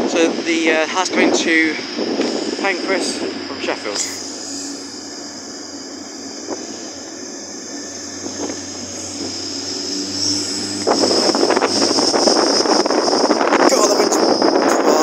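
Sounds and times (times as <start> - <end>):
train diesel engines running: 0.0 - 15.0
wind buffeting microphone: 0.0 - 15.0.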